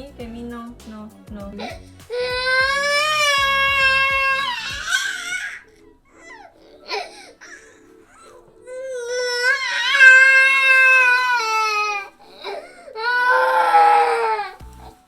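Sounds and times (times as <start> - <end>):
baby crying: 1.6 - 14.9.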